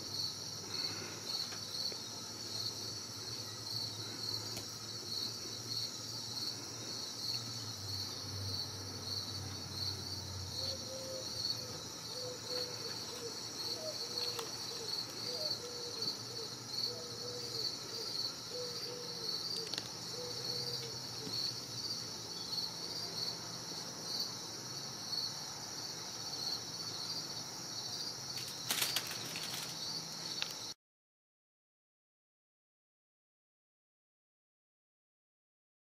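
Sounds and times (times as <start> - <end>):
cricket chirping: 0.0 - 30.8.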